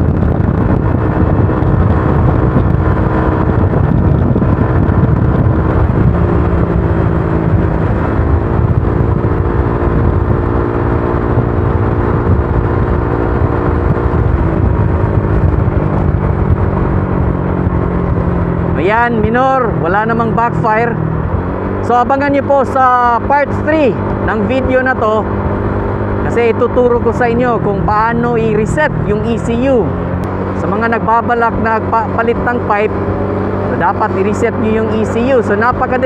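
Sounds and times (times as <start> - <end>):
heavy low rumble: 0.0 - 36.0
scooter engine exhaust: 0.0 - 36.0.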